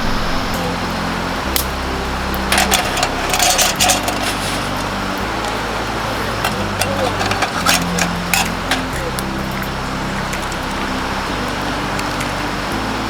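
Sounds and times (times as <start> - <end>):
background music with low notes: 0.0 - 13.0
sharp crackles and clicks: 0.0 - 13.0.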